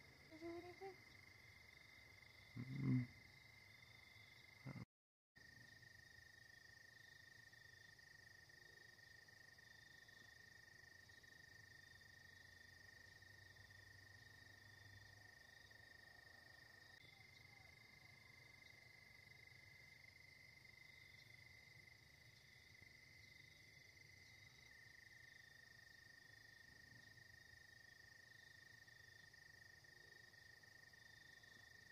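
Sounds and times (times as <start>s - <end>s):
crickets trilling: 5.4s - 31.9s.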